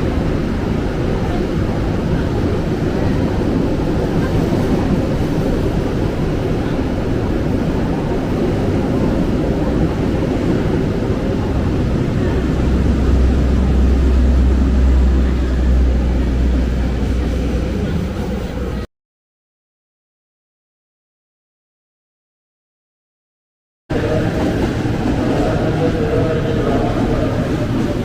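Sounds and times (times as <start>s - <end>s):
electric train running rumble: 0.0s - 18.9s, 23.9s - 28.0s.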